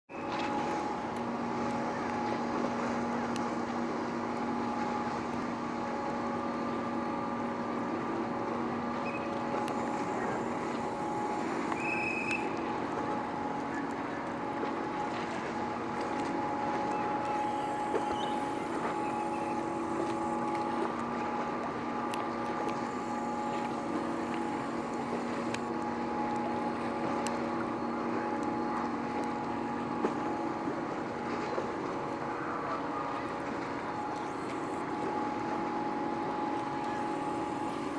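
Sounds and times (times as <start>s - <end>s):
ferry machinery humming: 0.1s - 37.9s.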